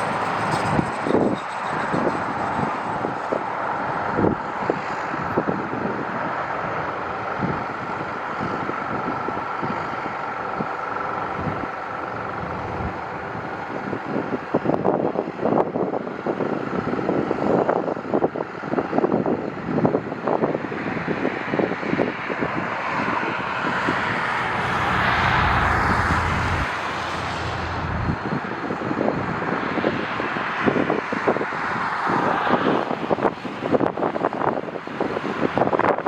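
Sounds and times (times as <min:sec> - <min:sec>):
jet engine with faint whine: 0:00.0 - 0:36.0
wind buffeting microphone: 0:00.0 - 0:36.0.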